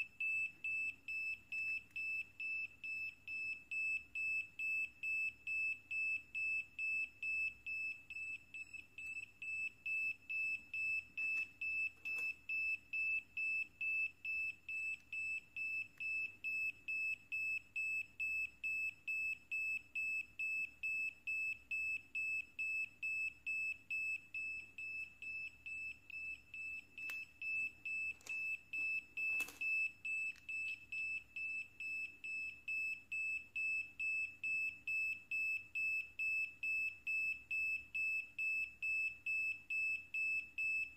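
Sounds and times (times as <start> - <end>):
piezo buzzer beeping: 0.0 - 40.9.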